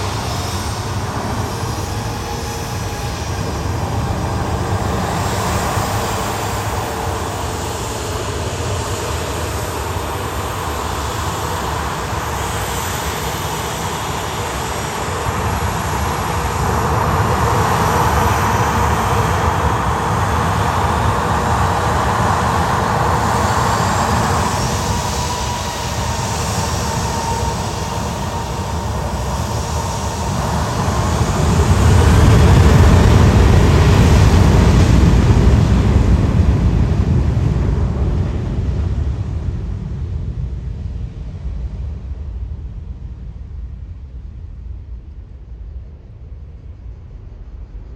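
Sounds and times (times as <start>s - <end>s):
airliner engines whining and rumbling: 0.0s - 47.9s.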